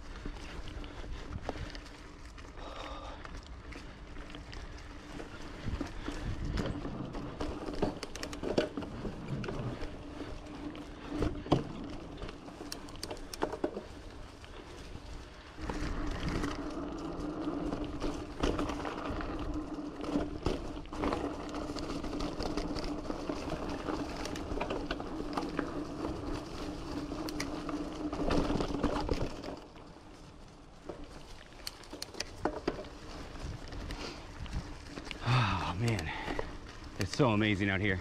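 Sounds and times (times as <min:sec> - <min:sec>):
bike rattling clicks and knocks: 0:00.0 - 0:38.0
bike tyre noise on dirt: 0:00.0 - 0:38.0.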